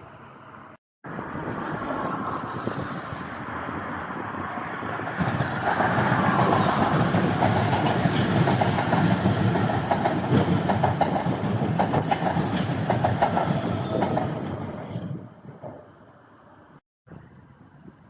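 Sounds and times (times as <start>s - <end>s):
train rumbling on rails: 0.0s - 16.8s.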